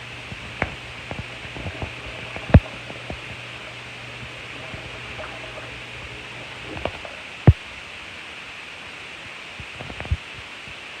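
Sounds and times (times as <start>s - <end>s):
steady low hum: 0.0s - 10.9s
steady hiss: 0.0s - 11.0s.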